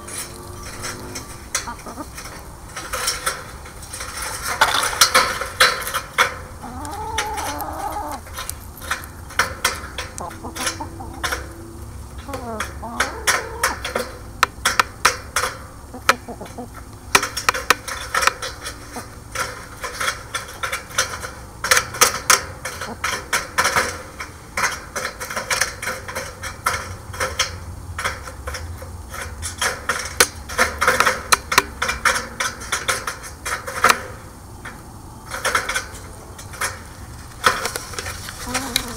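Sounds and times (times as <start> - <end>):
steady low hum: 0.0 - 38.9
chickens pecking taps: 1.5 - 38.9.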